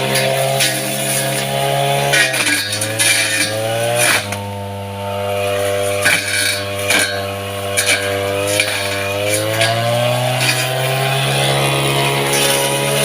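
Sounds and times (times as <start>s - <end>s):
cutter slicing grass: 0.0s - 13.0s
grass cutter engine running: 0.0s - 13.0s.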